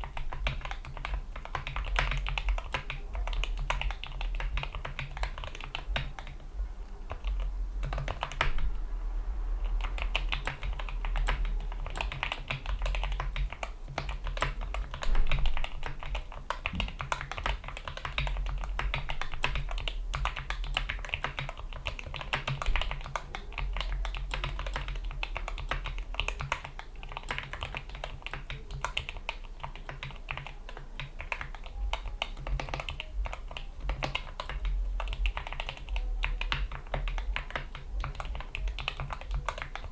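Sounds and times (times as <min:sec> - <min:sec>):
loud keyboard clack: 0:00.0 - 0:06.4, 0:09.8 - 0:39.9
keyboard typing: 0:00.0 - 0:08.7, 0:09.6 - 0:39.9.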